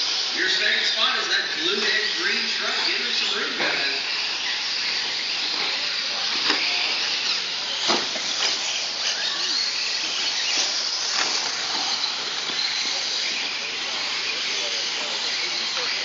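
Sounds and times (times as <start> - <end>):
rc truck motors whining: 0.0 - 16.0.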